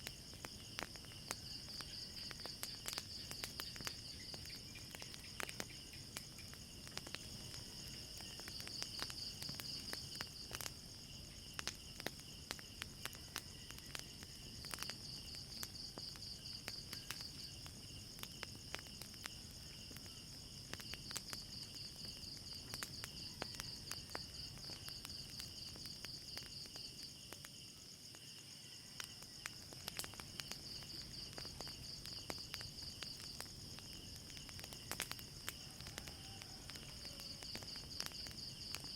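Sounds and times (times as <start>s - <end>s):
crickets trilling: 0.0s - 38.9s
fire crackling and popping: 0.0s - 38.9s.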